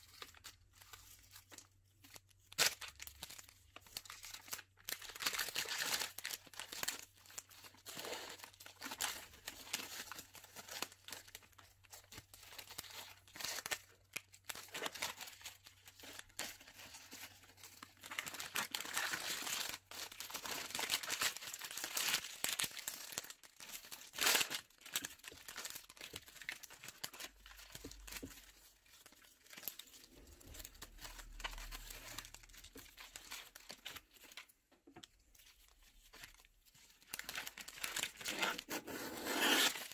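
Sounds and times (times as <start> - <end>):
foil gift bag crinkling: 2.5 - 34.5, 35.2 - 39.9.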